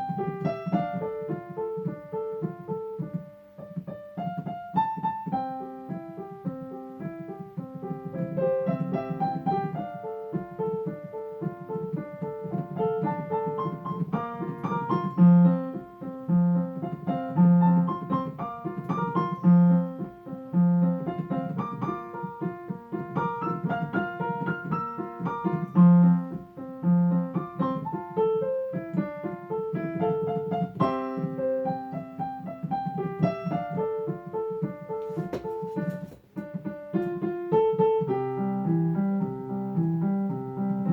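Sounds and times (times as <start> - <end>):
slow electric piano melody: 0.0 - 40.9.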